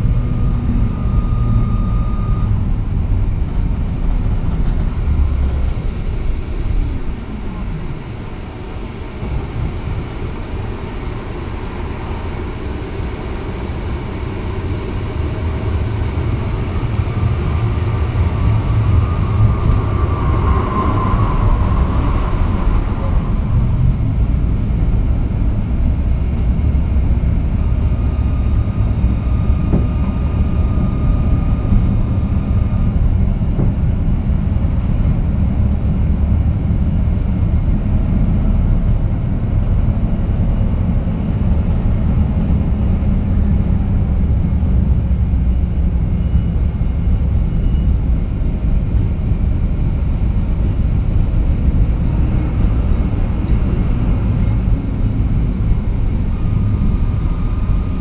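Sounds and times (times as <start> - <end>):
thin whine: 0.0 - 36.3, 39.4 - 58.0
tram rumbling on rails: 0.0 - 58.0.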